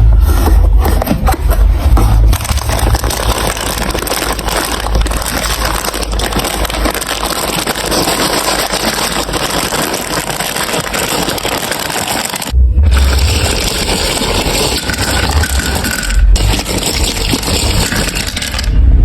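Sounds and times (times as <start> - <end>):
marbles rattling on plastic run: 2.3 - 18.8.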